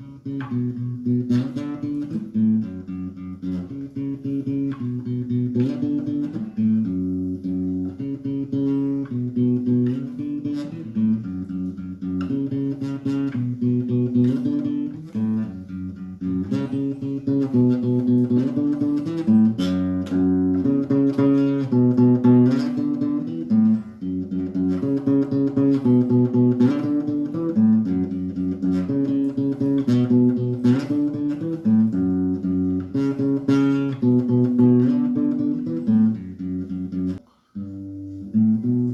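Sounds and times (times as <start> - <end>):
acoustic guitar strumming chords: 0.0 - 38.9.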